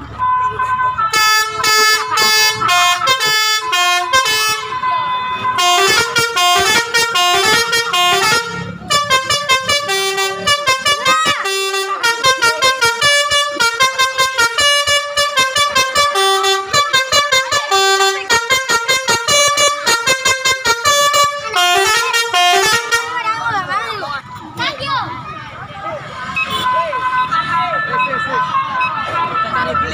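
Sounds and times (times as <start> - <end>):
multi-tone bus horn melody: 0.0 - 24.0, 26.3 - 29.9.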